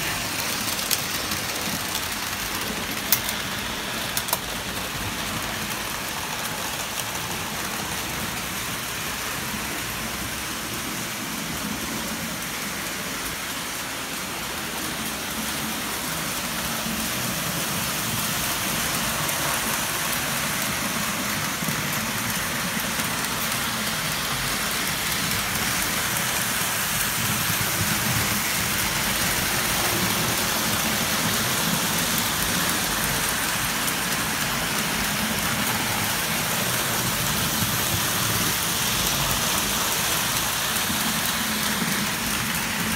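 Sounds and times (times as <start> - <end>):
model train wheels and motor whirring: 0.0 - 42.9.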